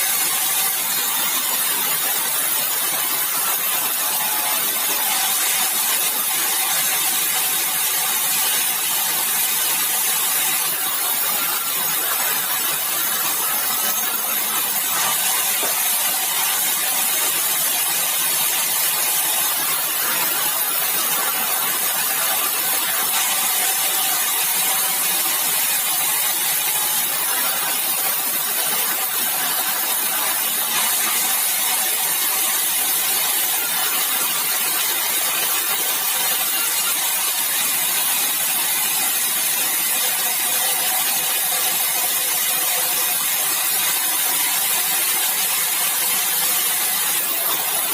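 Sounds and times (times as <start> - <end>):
sawmill machinery humming: 0.1 - 41.4.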